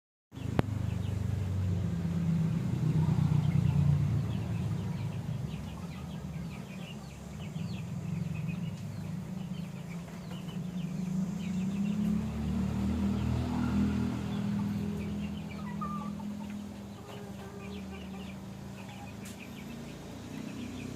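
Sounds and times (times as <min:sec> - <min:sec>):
bird chirping: 0:00.4 - 0:20.9.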